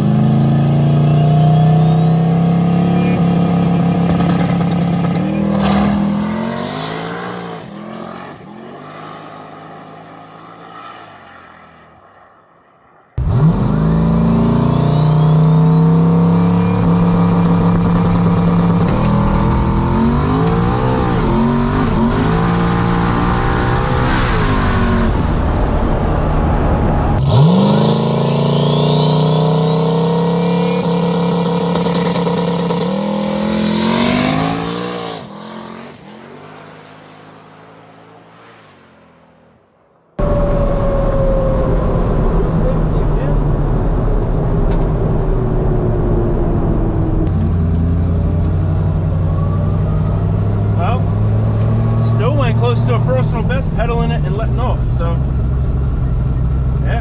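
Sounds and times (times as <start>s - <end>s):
car engine accelerating: 0.0s - 12.2s, 12.8s - 39.6s, 40.2s - 57.0s.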